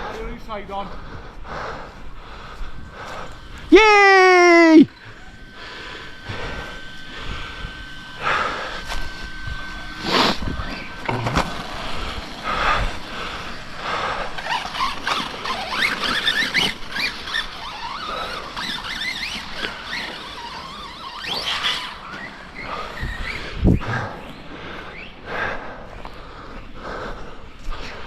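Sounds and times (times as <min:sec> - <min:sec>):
electric motors whining: 0:00.8 - 0:26.8.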